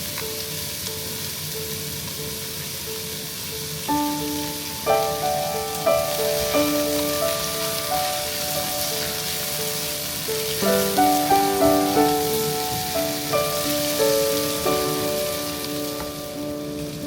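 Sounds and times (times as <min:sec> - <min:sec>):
gentle melody of held chords: 0:00.0 - 0:17.0
steady high hiss: 0:00.0 - 0:17.0.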